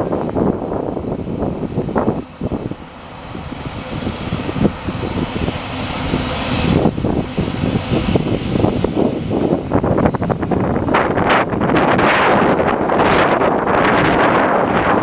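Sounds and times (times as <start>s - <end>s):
freight train rumble: 0.0s - 15.0s
wind buffeting microphone: 0.0s - 15.0s.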